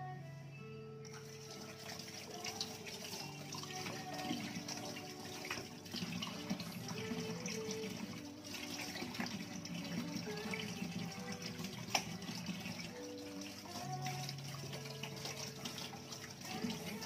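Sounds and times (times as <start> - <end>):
water splashing: 1.1 - 17.0.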